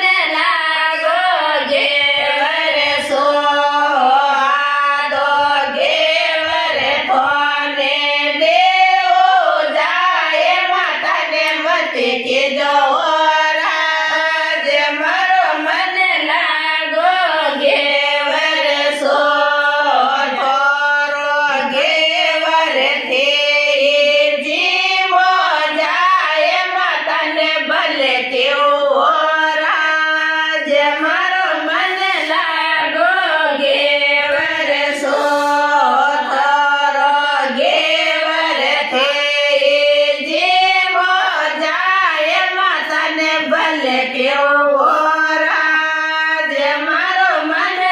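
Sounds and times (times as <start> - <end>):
women singing folk song together: 0.0 - 47.9.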